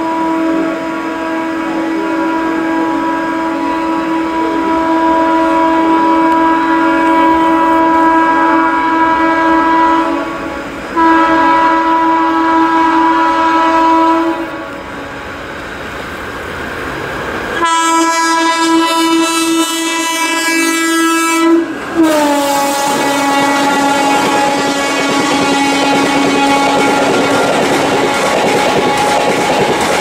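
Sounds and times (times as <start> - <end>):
electric locomotive horn blasts: 0.0 - 15.2, 17.6 - 30.0
train running noise: 0.0 - 30.0.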